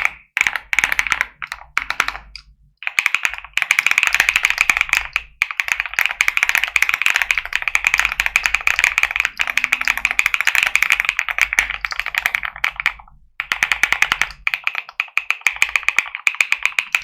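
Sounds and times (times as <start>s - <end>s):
fast typing on mechanical keyboard: 0.0s - 17.0s.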